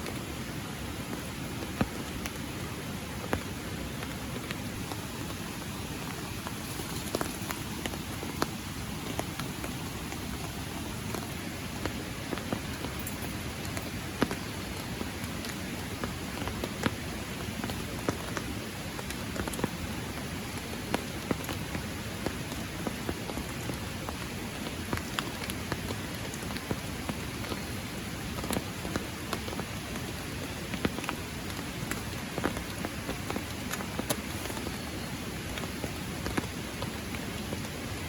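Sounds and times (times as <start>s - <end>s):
raindrops ticking close by: 0.0s - 38.0s
steady rain hiss: 0.0s - 38.0s.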